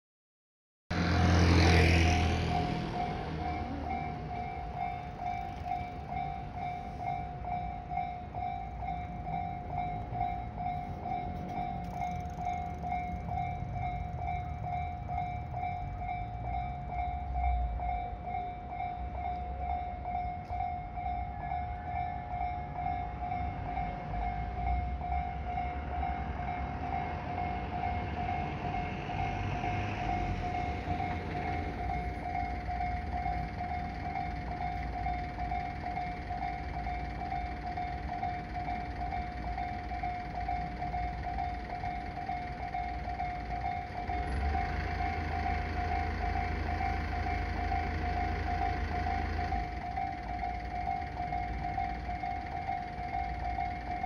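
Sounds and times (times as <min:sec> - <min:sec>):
level-crossing alarm dings: 0:02.0 - 0:54.0.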